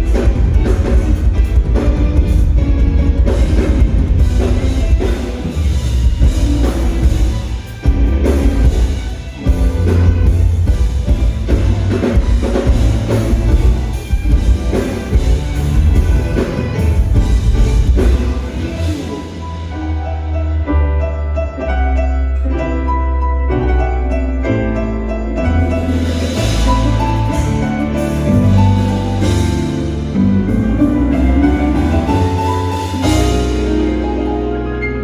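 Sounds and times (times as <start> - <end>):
band music with drums and bass: 0.0 - 35.0.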